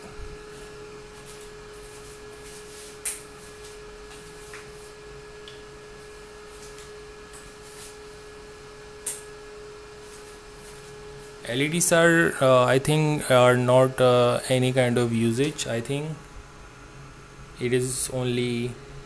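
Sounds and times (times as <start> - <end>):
fan heater humming: 0.0 - 19.0.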